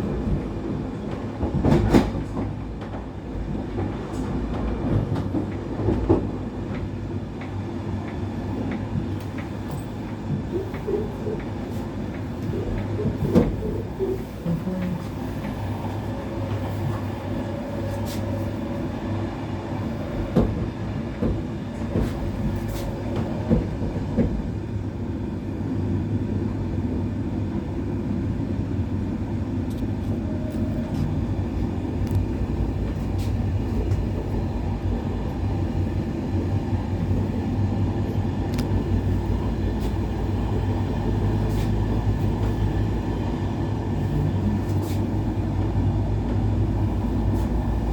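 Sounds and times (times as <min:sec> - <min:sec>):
train rumbling on track: 0:00.0 - 0:47.9.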